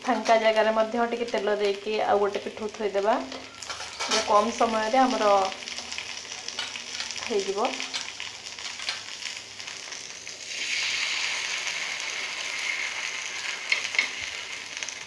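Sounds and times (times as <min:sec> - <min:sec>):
batter sizzling in oil: 0:00.0 - 0:15.0.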